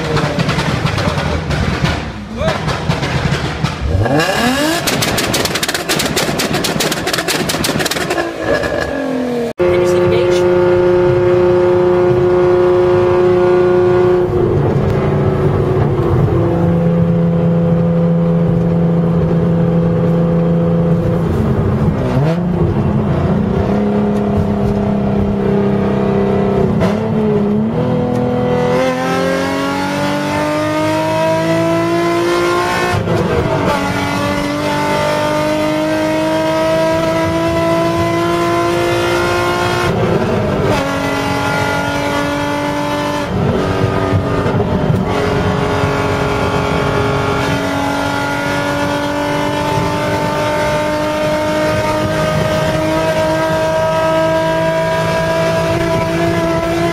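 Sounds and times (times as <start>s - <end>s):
car engine accelerating and shifting: 0.0s - 56.9s.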